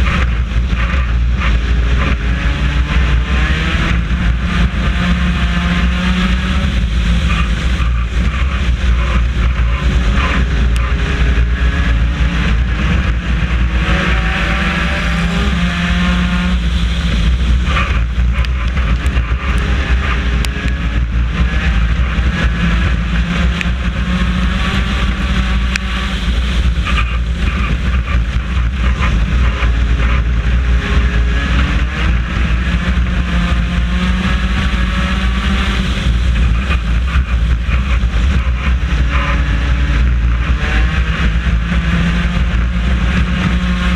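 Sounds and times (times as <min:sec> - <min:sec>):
loud steady low rumble: 0:00.0 - 0:43.9
race car engine revving: 0:00.0 - 0:43.9.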